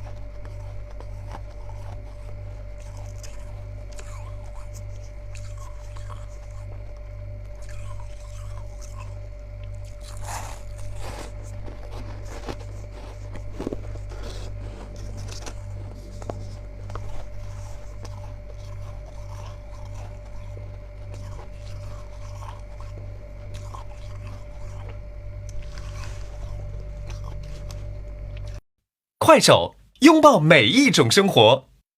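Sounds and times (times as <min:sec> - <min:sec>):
frost crunching when chewed: 0:00.0 - 0:28.6
steady low hum: 0:00.0 - 0:28.6.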